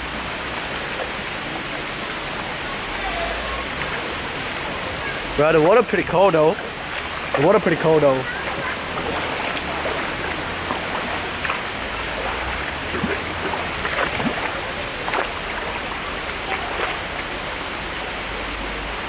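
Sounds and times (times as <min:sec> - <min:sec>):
creek water running over rocks: 0:00.0 - 0:19.0
water splashes: 0:00.0 - 0:19.0.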